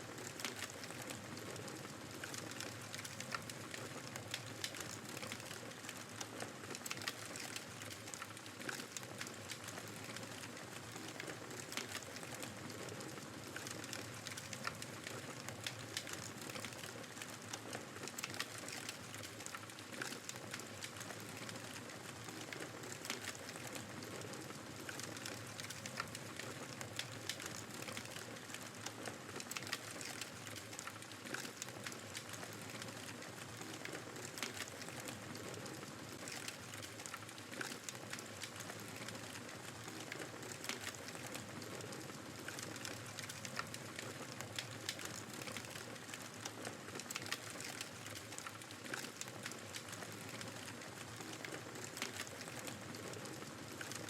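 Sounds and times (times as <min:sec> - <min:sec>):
fireplace crackling: 0:00.0 - 0:54.0.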